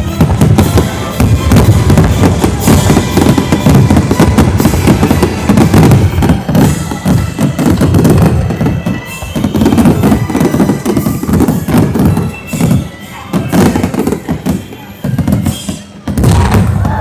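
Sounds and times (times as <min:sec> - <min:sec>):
fireworks exploding: 0:00.0 - 0:17.0
loud music: 0:00.0 - 0:17.0.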